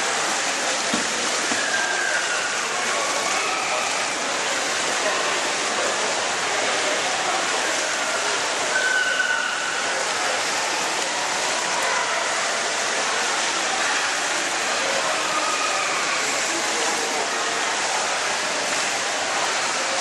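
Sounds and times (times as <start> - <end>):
pool water rushing and splashing: 0.0 - 20.0.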